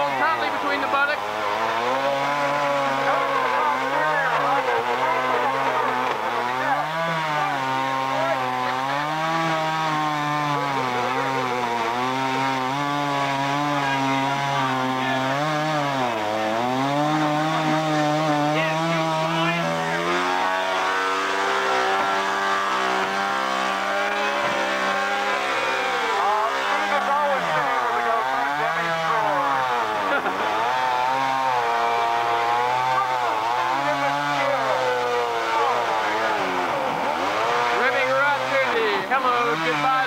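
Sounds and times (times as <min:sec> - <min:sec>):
chainsaw engine revving: 0:00.0 - 0:40.0.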